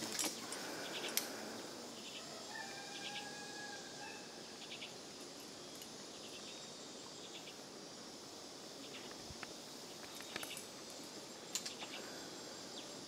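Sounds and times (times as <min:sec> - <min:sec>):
insects chirping in bursts: 0:00.0 - 0:13.0
outdoor hiss: 0:00.0 - 0:13.0.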